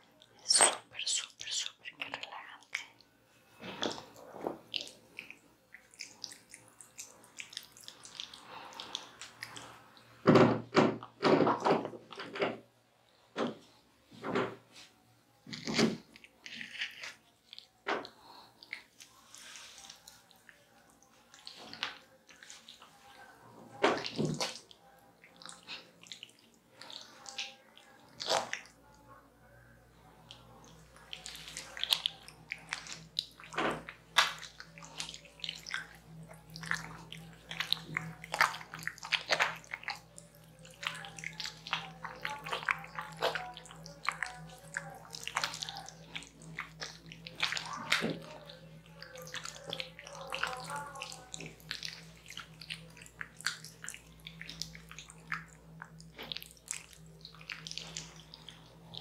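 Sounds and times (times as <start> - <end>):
wet squishing of fruit pulp on skin: 3.6 - 10.1, 15.5 - 28.8, 30.3 - 59.0.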